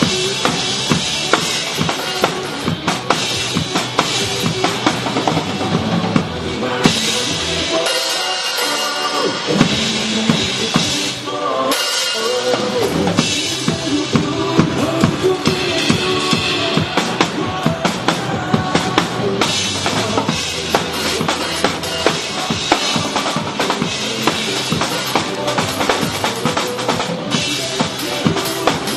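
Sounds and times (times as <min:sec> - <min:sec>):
backing track with melody: 0:00.0 - 0:28.9
drum kit playing: 0:00.0 - 0:28.9.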